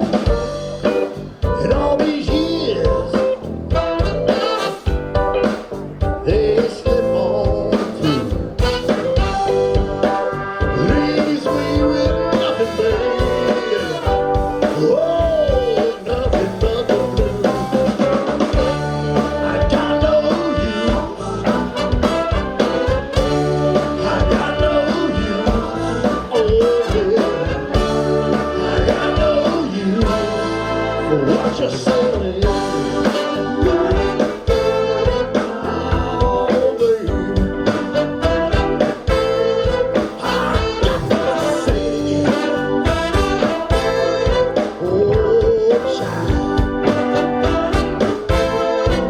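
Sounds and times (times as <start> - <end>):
live band with horns: 0.0 - 49.0.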